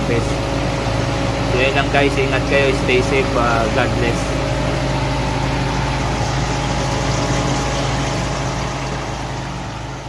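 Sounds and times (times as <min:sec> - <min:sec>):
ice machine humming and whooshing: 0:00.0 - 0:10.0.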